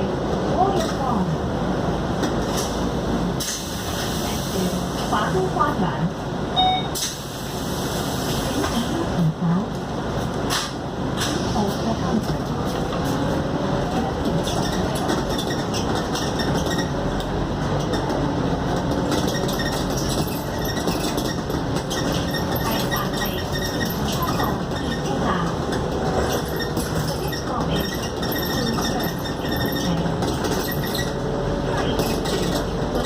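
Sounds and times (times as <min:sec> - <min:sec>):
bus diesel engine rumble: 0:00.0 - 0:33.0.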